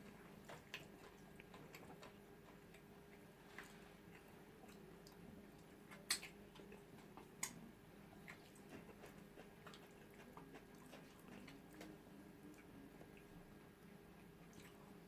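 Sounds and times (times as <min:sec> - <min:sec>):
mouth clicks and smacks from chewing: 0:00.0 - 0:15.0.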